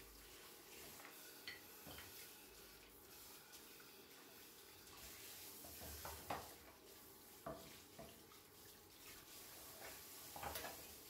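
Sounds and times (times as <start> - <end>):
faint running tap water: 0.0 - 11.0.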